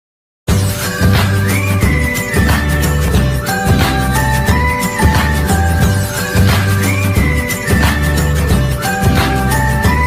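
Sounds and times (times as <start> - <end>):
intro music with beat and synth: 0.5 - 10.0.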